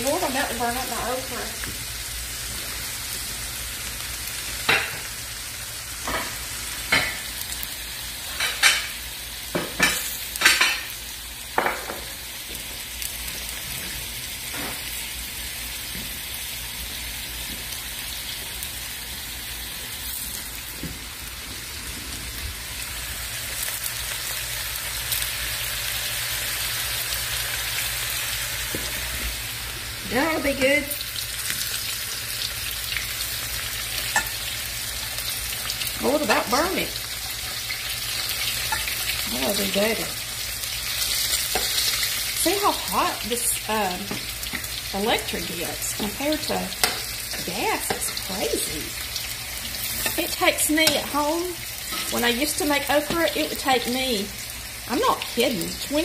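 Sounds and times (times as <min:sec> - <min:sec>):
okra sizzling in oil: 0:00.0 - 0:56.0.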